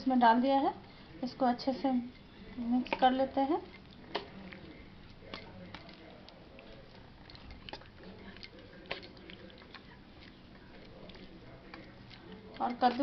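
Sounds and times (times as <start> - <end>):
spoon stirring wet mixture: 0.0 - 13.0.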